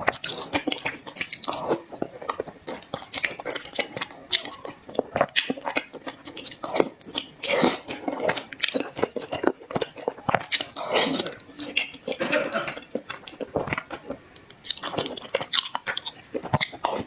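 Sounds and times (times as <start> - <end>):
chewing with wet mouth clicks: 0.0 - 17.0.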